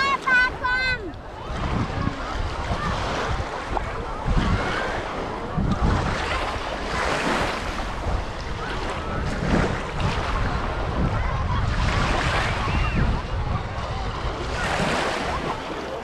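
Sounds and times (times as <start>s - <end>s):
waves washing onto beach: 0.0s - 16.0s
wind on microphone: 0.0s - 16.0s.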